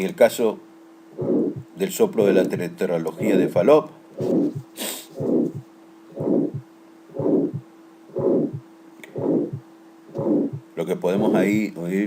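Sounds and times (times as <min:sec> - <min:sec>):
steady low hum: 0:00.0 - 0:12.0
heartbeat with murmur: 0:01.2 - 0:02.4, 0:03.1 - 0:11.6.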